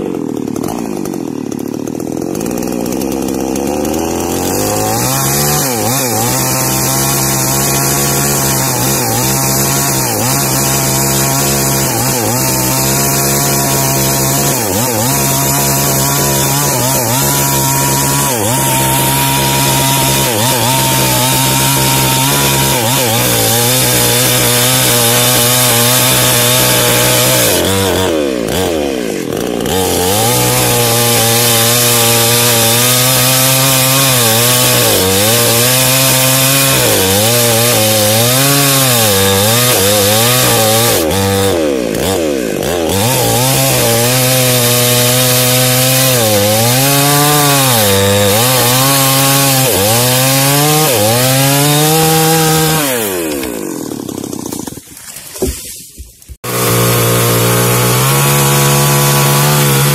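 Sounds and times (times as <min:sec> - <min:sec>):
chainsaw revving: 0:00.0 - 0:55.5, 0:56.4 - 0:59.9.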